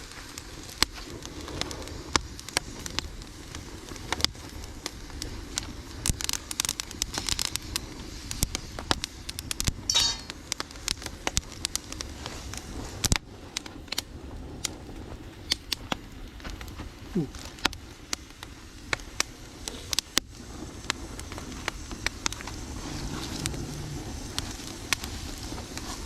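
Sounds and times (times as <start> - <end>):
campfire crackling and popping: 0.0 - 26.0
low noise of flames: 0.0 - 26.0.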